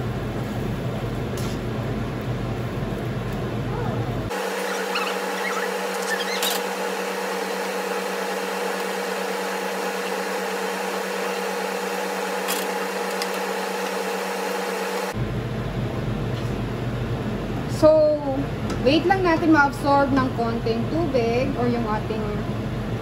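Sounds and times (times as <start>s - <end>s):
machine hum with hiss: 0.0s - 18.9s.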